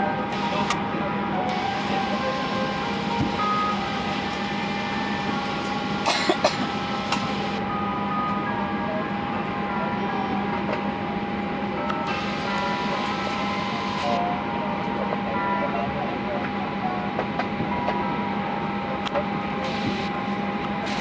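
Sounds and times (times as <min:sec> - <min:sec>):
machinery hum with whine: 0:00.0 - 0:21.0.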